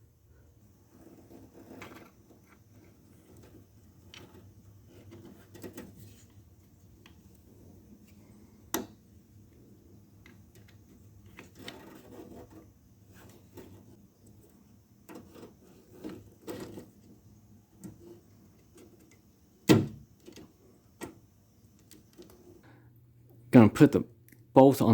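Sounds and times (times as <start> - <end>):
faint handling noises: 0.4 - 23.5.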